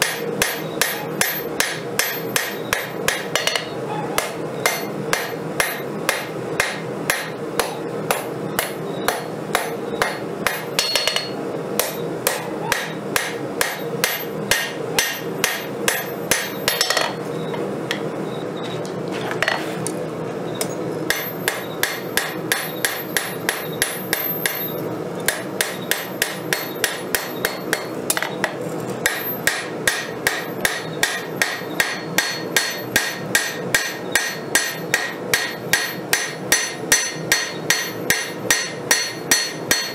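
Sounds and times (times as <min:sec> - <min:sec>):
hammer striking steel on anvil: 0:00.0 - 0:17.2, 0:20.6 - 0:39.9
steady hum: 0:00.0 - 0:39.9.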